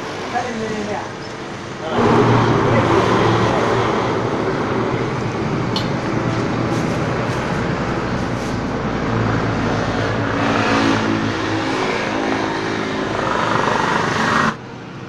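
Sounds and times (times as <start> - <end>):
vehicle engine running: 1.9 - 14.6.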